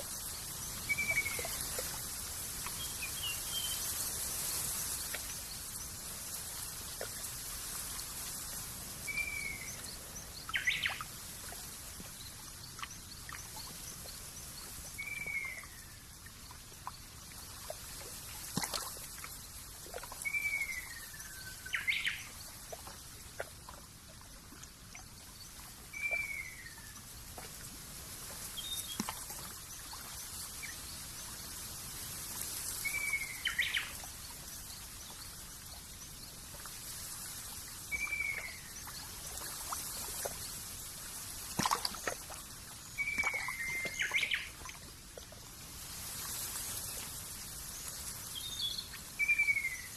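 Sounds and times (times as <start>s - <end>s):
steady high hiss: 0.0s - 23.3s, 25.5s - 41.6s, 42.3s - 49.9s.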